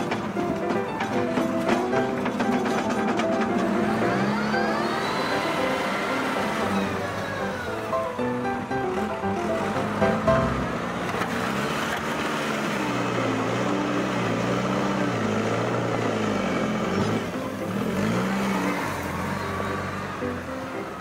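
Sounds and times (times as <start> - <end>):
low motor engine effect: 3.5 - 21.0.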